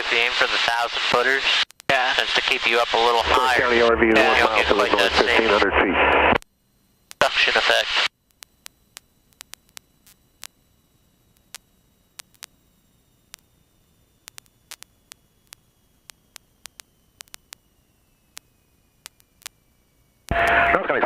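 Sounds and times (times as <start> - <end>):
faint high whine: 0.0 - 21.0
radio static clicks and pops: 0.0 - 21.0.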